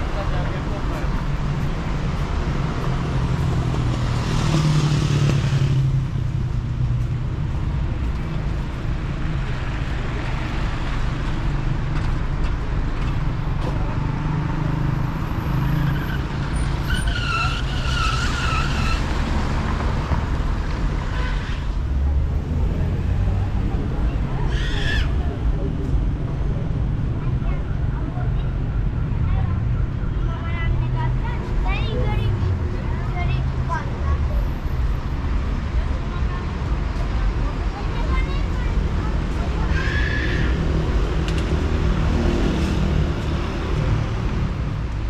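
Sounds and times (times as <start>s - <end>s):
traffic rumble: 0.0s - 45.0s.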